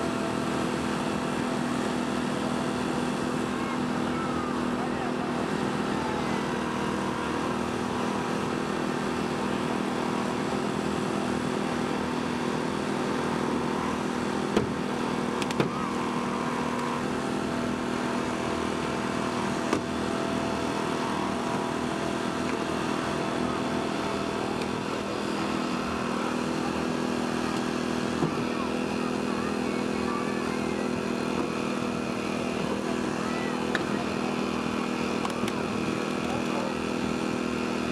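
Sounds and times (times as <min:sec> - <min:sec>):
small gasoline engine running: 0:00.0 - 0:37.9.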